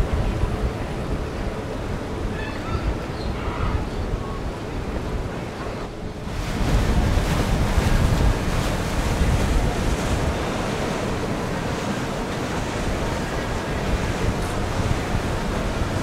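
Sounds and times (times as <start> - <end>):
water rushing from boat wake: 0.0 - 16.0
wind buffeting microphone: 0.0 - 16.0.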